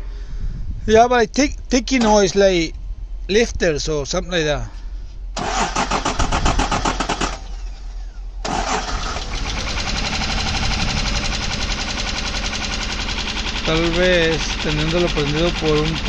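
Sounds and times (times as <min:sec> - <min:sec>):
car engine running with ticking: 0:01.3 - 0:02.8, 0:03.7 - 0:16.0.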